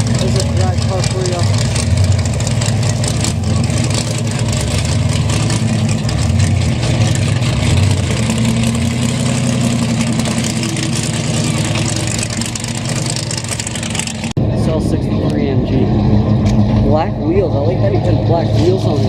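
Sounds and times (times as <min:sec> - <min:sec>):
drag car engine idling: 0:00.0 - 0:19.0.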